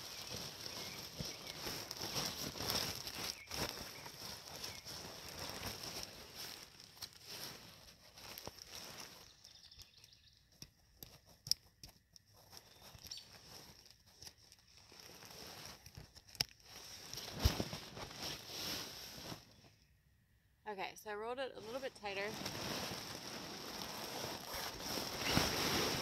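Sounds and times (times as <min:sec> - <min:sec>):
nylon fabric rustling: 0:00.0 - 0:09.4, 0:12.4 - 0:19.6, 0:21.5 - 0:26.0.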